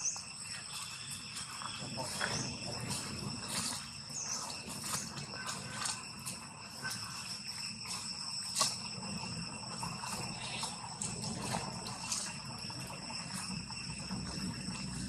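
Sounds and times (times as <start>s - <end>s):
shrill insect chorus: 0.0s - 15.0s.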